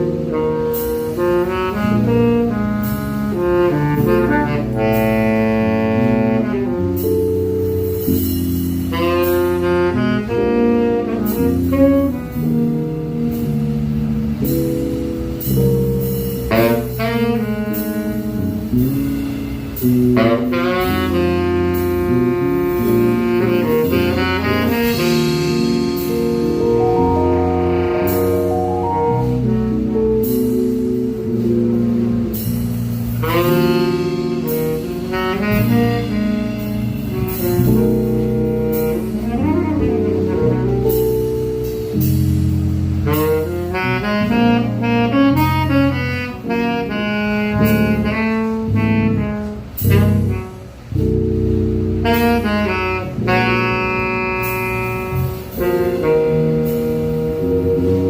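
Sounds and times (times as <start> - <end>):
double bass: 0.0 - 58.0
drum kit with cymbals: 0.0 - 58.0
keyboard: 0.0 - 58.0
saxophone: 0.0 - 58.0.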